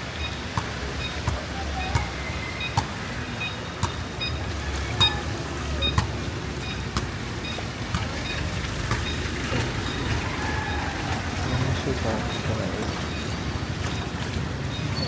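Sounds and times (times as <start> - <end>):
road traffic rumble: 0.0 - 15.0
splashy footsteps on wet street: 0.0 - 15.0.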